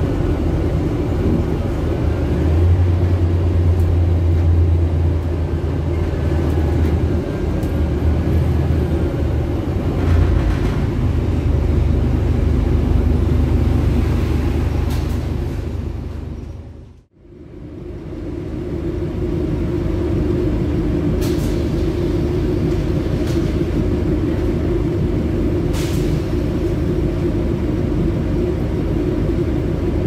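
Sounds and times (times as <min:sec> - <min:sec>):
bus engine droning: 0:00.0 - 0:30.0.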